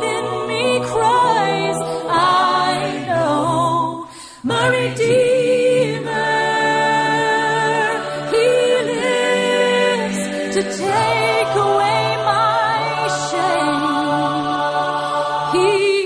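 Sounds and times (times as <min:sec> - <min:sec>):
voices singing a religious song: 0:00.0 - 0:16.0.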